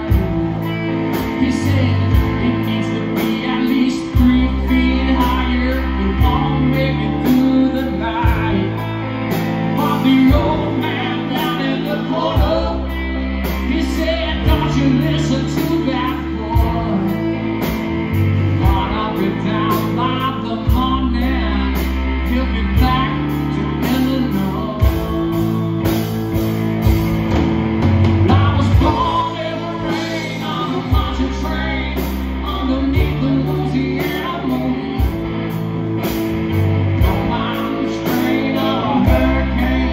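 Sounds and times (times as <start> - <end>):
male lead vocal: 0.0 - 26.6, 27.9 - 39.9
country-rock band playing: 0.0 - 39.9.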